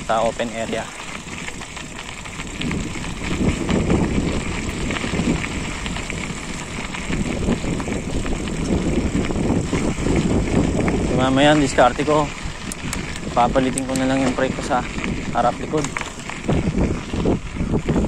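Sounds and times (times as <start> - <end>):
bike rattling and clicking: 0.0 - 18.0
bike tyres rolling on stony ground: 0.0 - 18.0
wind on microphone: 0.0 - 18.0.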